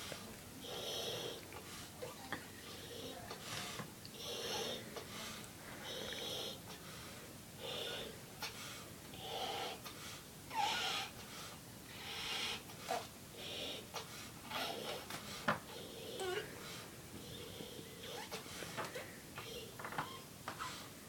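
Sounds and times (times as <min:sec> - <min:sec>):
heavy breaths: 0:00.0 - 0:21.0.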